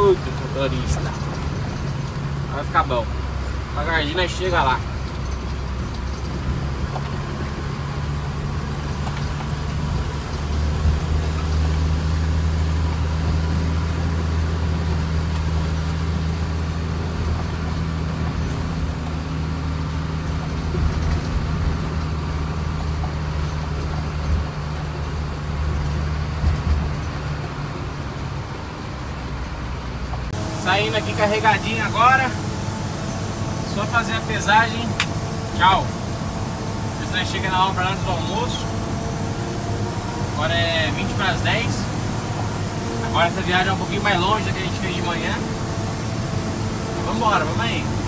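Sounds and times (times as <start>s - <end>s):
diesel truck engine droning: 0.0s - 48.0s
truck knocking over bumps: 4.5s - 47.9s.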